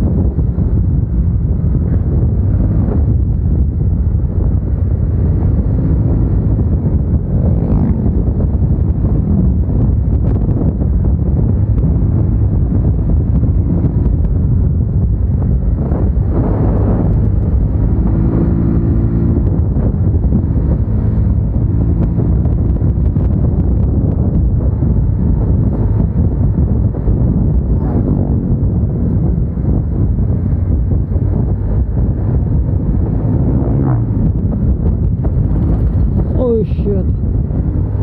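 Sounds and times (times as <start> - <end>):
motorcycle engine running: 0.0 - 38.0
wind buffeting microphone: 0.0 - 38.0.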